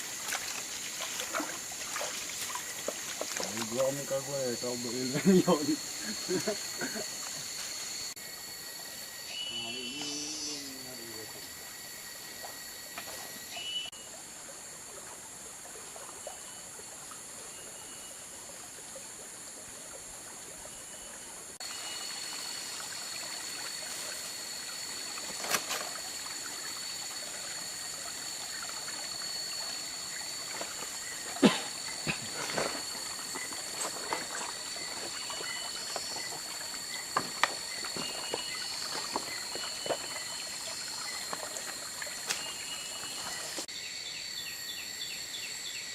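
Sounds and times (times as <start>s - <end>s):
high-pitched insect drone: 0.0s - 14.2s, 21.6s - 45.9s
stream water trickling: 0.0s - 43.7s.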